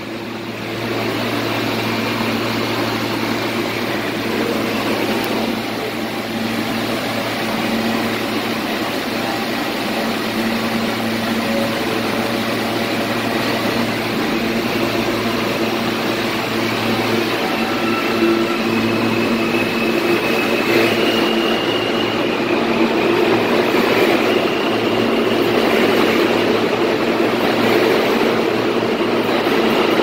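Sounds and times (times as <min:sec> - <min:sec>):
subway car air conditioning hum: 0:00.0 - 0:30.0.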